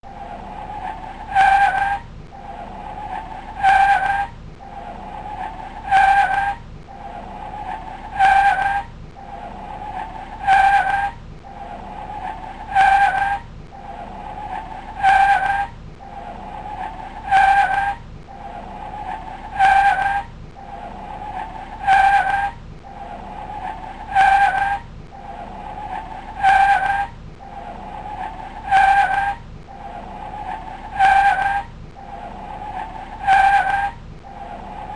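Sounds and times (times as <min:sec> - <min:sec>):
car tyres squealing: 0:00.0 - 0:34.9.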